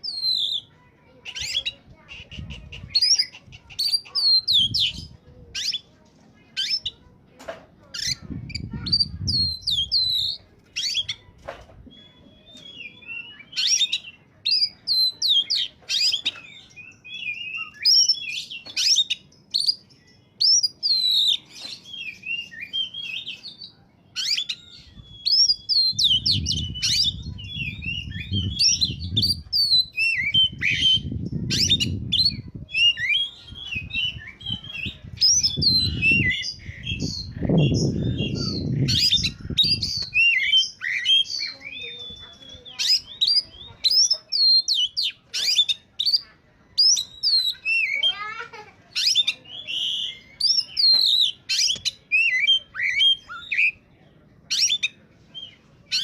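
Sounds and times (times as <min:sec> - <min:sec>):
bird singing whistles and trills: 0:00.0 - 0:00.7, 0:08.0 - 0:48.1, 0:48.9 - 0:53.8, 0:54.5 - 0:56.0.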